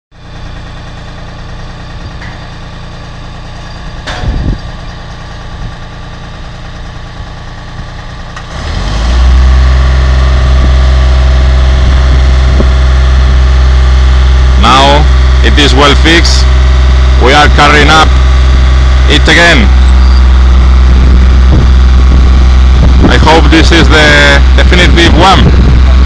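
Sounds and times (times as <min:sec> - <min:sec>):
construction machinery engine revving: 0:00.2 - 0:26.0.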